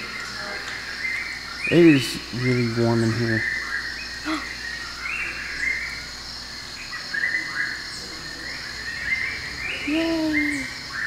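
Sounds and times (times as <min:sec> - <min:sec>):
birds chirping: 0:00.0 - 0:11.0
high-pitched insect drone: 0:00.9 - 0:11.0.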